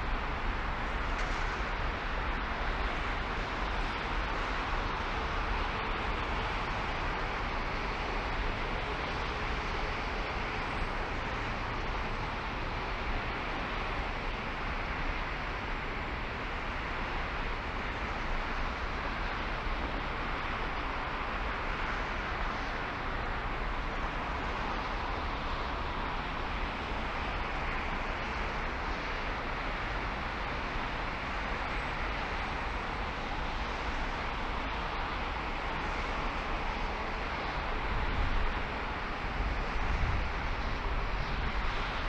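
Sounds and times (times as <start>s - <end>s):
car road and wind noise: 0.0s - 42.0s.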